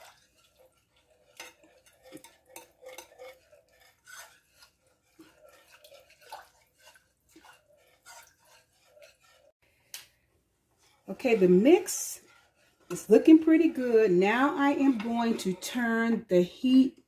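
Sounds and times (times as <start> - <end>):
whisk scraping saucepan: 0.0 - 9.8, 10.7 - 17.0.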